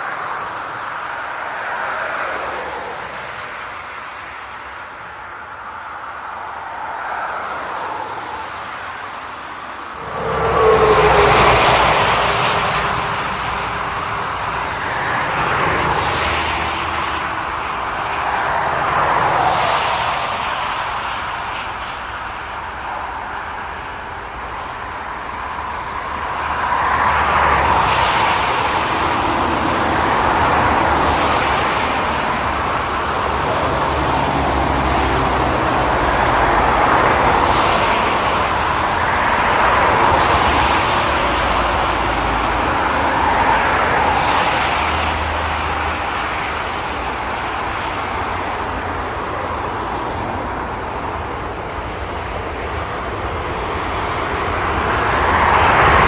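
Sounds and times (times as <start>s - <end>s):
traffic rushing past: 0.0s - 56.0s.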